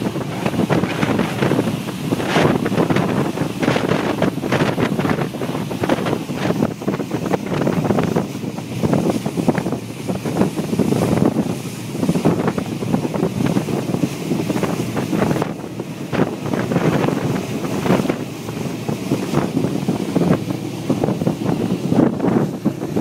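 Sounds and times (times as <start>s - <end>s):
water rushing along hull: 0.0s - 23.0s
wind gusting on microphone: 0.0s - 23.0s.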